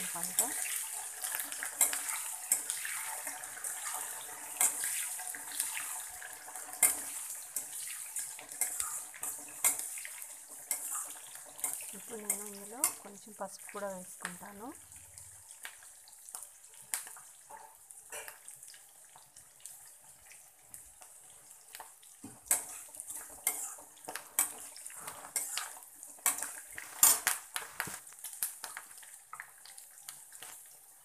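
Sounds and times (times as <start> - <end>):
spices sizzling in hot oil: 0.0 - 31.0.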